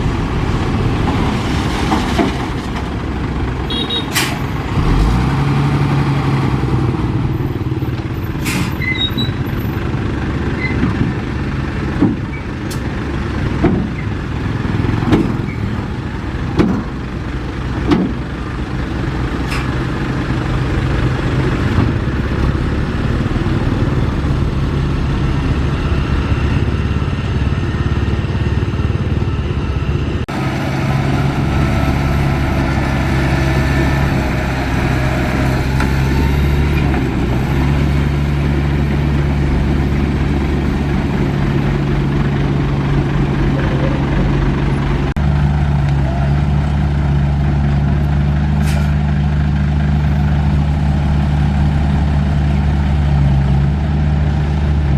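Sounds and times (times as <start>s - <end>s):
heavy diesel machinery running: 0.0s - 54.9s.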